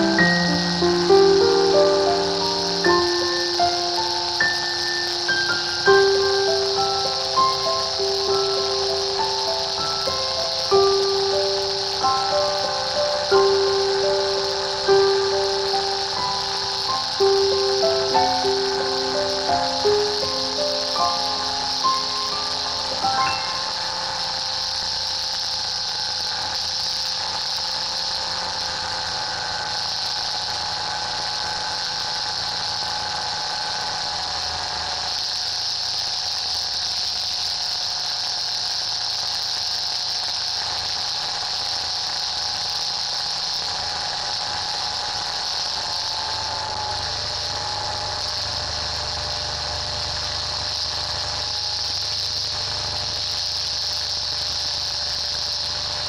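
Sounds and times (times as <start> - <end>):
thin steady whine: 0.0 - 56.0
two-stroke aircraft engine running: 0.0 - 56.0
wind hiss: 0.0 - 56.0.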